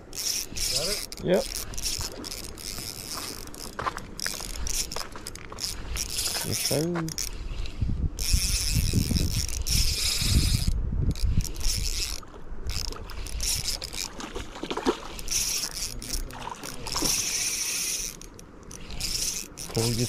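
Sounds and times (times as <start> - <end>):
fishing reel cranking: 0.0 - 14.2, 15.1 - 20.0.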